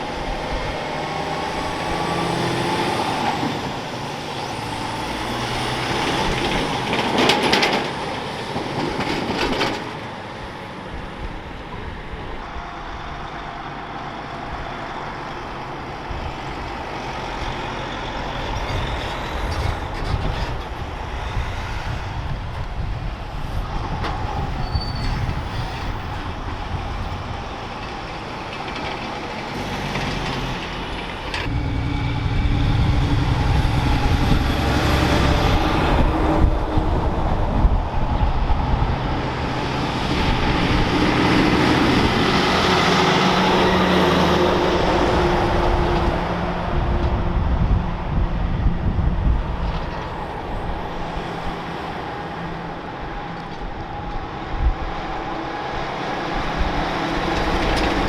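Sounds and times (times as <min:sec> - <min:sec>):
diesel vehicle rumbling: 0:00.0 - 0:58.0.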